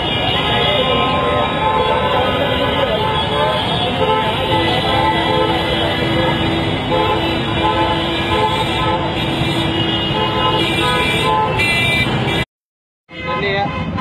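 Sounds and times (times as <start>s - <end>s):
vehicle horns honking: 0.0s - 12.5s, 13.1s - 14.0s
road traffic: 0.0s - 14.0s.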